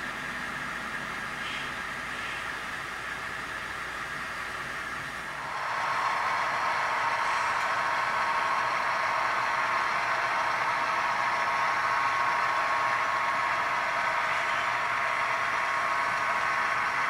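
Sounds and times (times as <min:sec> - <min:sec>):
model train motors whirring: 0:00.0 - 0:17.0.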